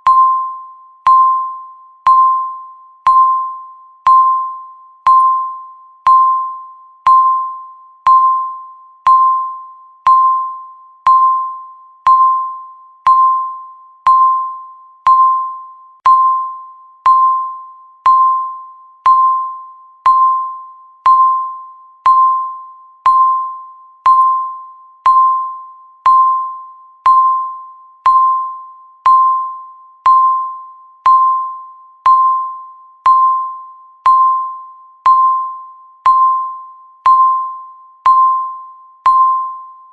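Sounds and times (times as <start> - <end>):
countdown timer beeping: 0.0 - 39.9.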